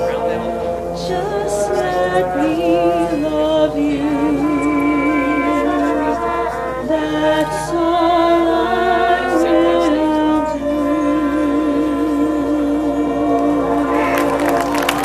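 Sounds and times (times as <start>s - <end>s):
marching band playing slowly: 0.0s - 15.0s.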